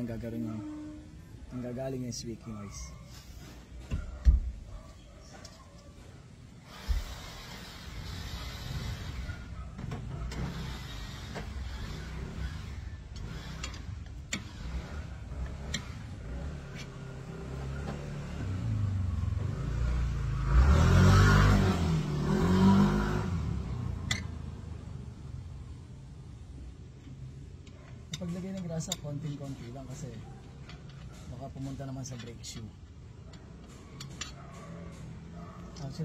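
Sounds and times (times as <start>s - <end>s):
vehicle engine rumbling: 6.3s - 36.0s.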